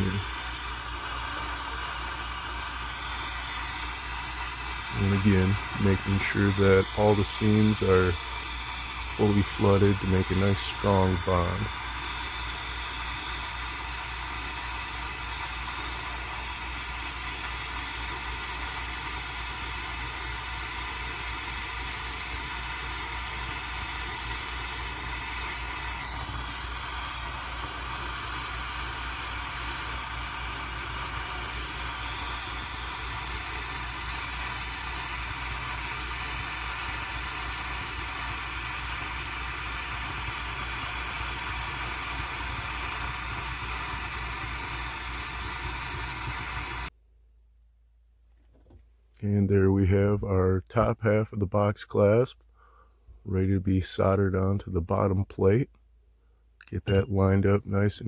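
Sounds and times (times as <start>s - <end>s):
soldering torch hissing: 0.0s - 46.9s.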